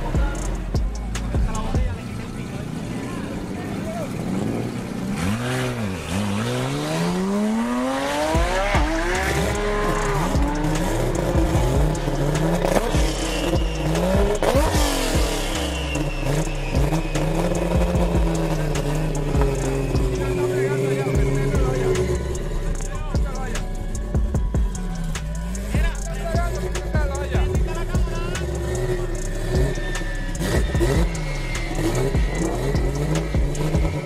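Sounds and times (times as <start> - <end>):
background music with bass: 0.0 - 34.0
car engine revving: 0.0 - 34.0.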